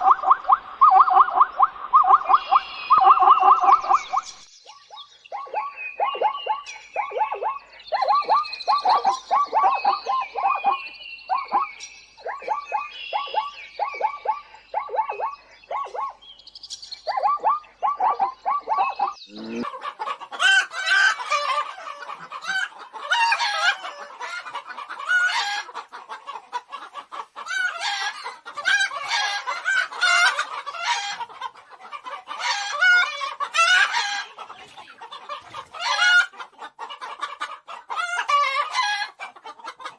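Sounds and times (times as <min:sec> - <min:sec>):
chickens clucking and cackling: 0:00.0 - 0:39.9.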